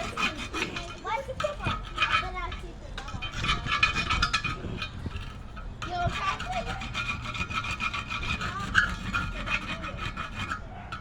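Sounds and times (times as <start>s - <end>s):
scraping rusty steel wheel rim: 0.0s - 11.0s.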